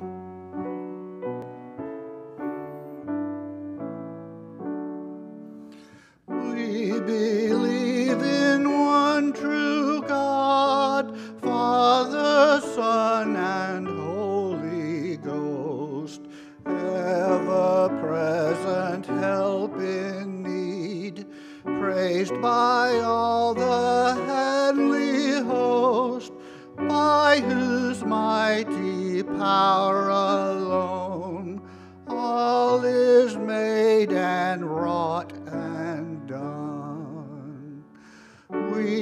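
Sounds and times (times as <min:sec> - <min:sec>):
piano accompaniment: 0:00.0 - 0:39.0
man singing a hymn: 0:06.3 - 0:39.0.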